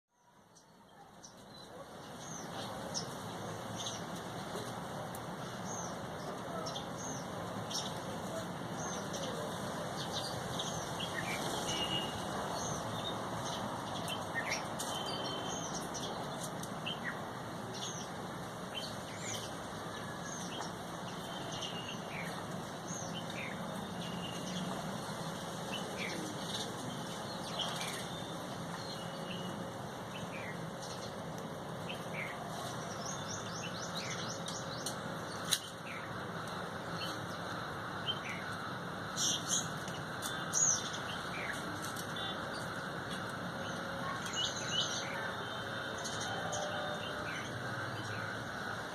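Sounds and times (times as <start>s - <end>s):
small birds chirping: 0.2s - 48.9s.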